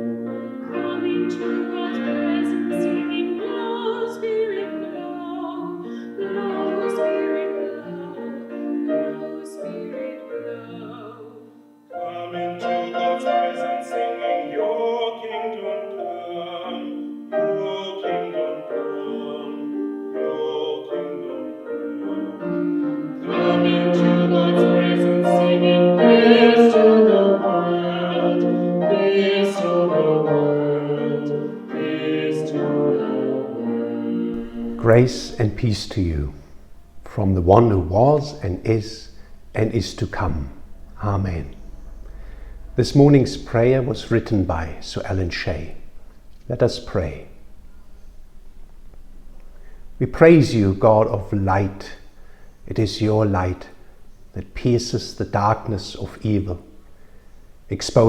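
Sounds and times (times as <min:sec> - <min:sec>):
piano accompaniment: 0:00.0 - 0:52.3
classical-style singing: 0:00.0 - 0:58.0.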